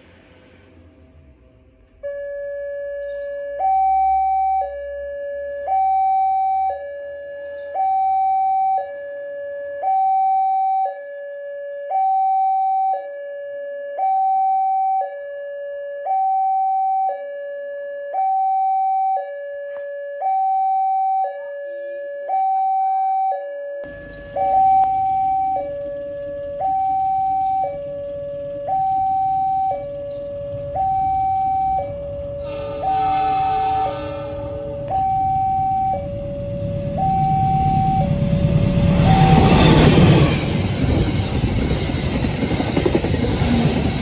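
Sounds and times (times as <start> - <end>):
level-crossing two-tone alarm: 2.0 - 44.0.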